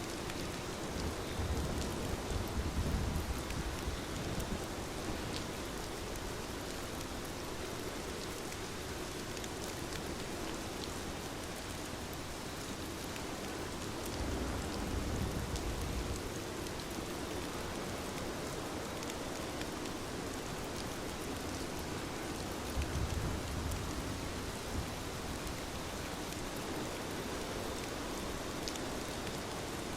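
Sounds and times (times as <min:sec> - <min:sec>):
steady rain hiss: 0:00.0 - 0:29.9.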